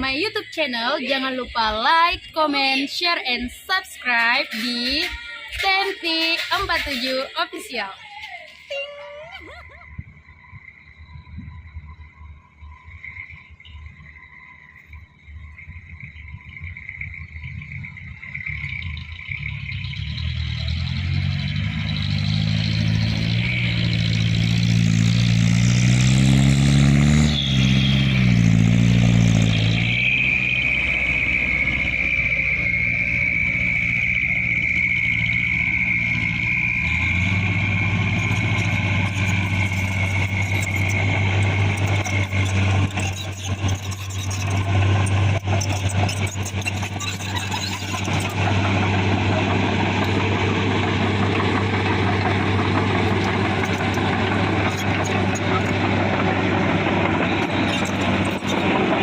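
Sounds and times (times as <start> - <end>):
high whine: 0.0 - 59.0
diesel truck engine revving: 9.8 - 59.0.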